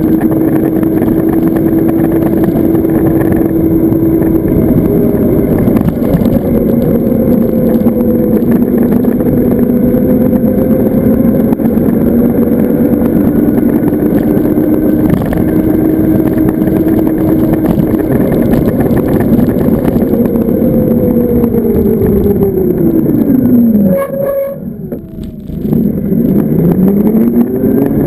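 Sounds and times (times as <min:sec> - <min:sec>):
wind rushing over microphone: 0:00.0 - 0:24.0, 0:24.6 - 0:28.0
electric motor whine: 0:00.0 - 0:28.0.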